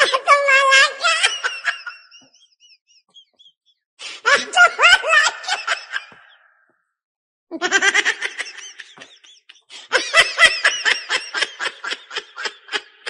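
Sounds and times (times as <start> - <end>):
person laughing hard: 0.0 - 6.5, 7.5 - 13.0.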